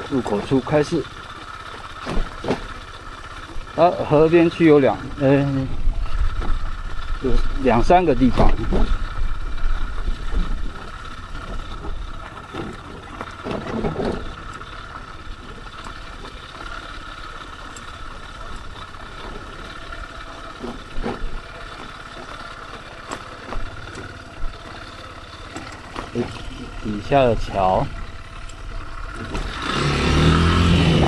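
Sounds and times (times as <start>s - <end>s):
motorcycle engine at low speed: 0.0s - 31.0s.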